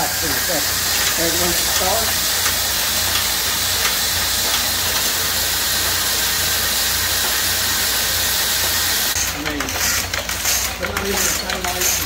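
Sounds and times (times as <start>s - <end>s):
knitting machine whirring: 0.0s - 12.0s.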